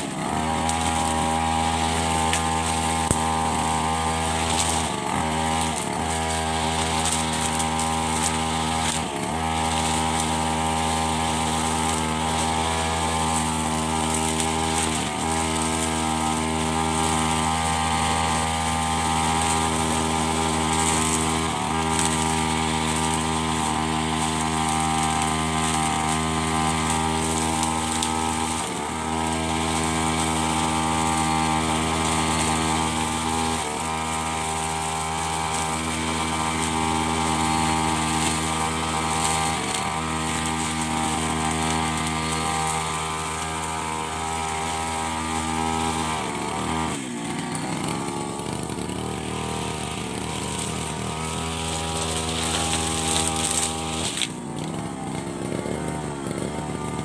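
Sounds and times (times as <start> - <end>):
brush cutter engine: 0.0 - 57.0
trimmer line cutting grass: 0.0 - 57.0.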